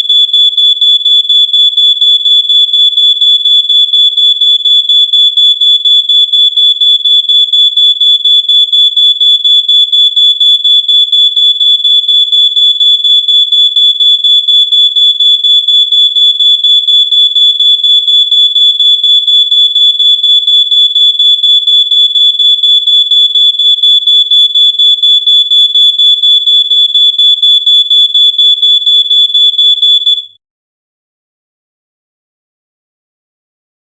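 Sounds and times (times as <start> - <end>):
smoke alarm beeping: 0.0 - 30.4.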